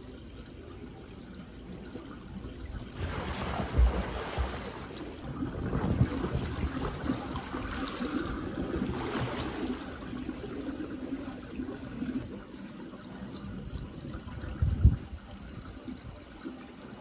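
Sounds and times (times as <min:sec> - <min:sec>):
pool water splashing: 0:00.0 - 0:17.0.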